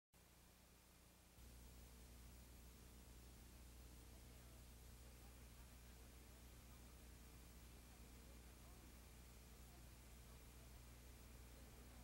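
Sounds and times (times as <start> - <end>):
faint hiss: 0.2 - 12.0
low steady hum: 0.2 - 12.0.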